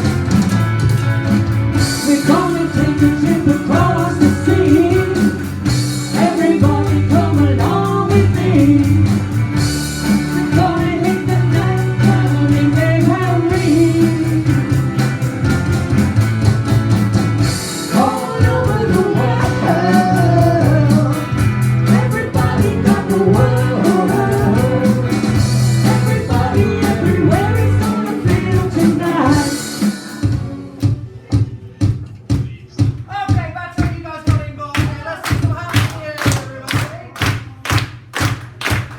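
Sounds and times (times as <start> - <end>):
rock band playing with singing: 0.0 - 36.8.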